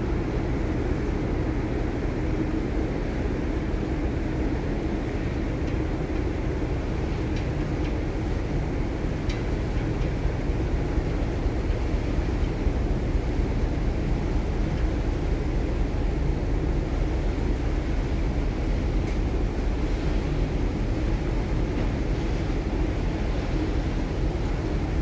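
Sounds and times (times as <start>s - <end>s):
ferry engine rumble: 0.0s - 25.0s.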